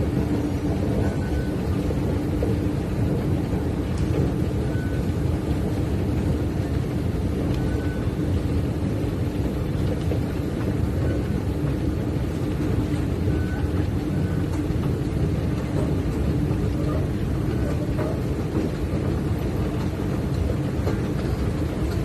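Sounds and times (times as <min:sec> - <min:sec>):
constant hum: 0:00.0 - 0:22.0.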